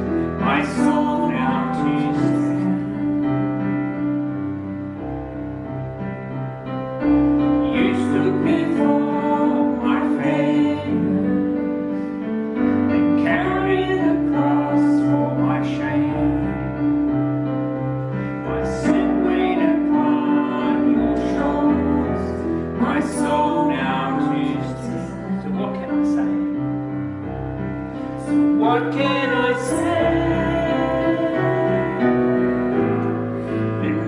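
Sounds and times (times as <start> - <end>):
slow worship song on piano: 0.0 - 34.0.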